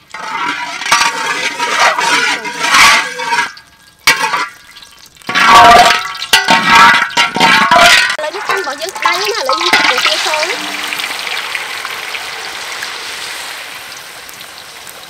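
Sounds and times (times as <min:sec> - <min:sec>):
metal spatula scraping a wok: 0:00.0 - 0:13.4
hot oil sizzling in a wok: 0:00.0 - 0:15.0.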